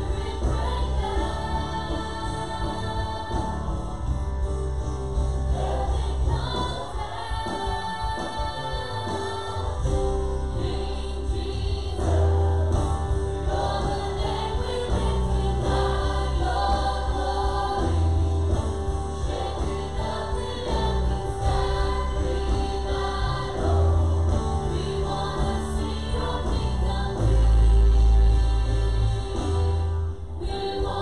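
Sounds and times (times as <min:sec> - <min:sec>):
singers over a band: 0:00.0 - 0:04.6, 0:05.4 - 0:31.0
bass holding low notes: 0:00.0 - 0:31.0.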